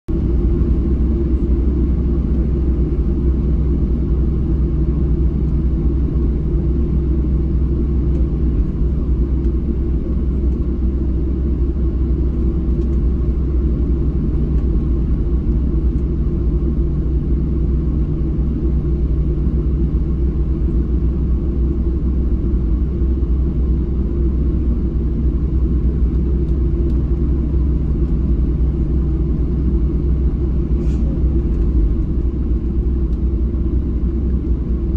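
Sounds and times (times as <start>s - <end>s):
airplane cabin rumble: 0.1s - 34.9s.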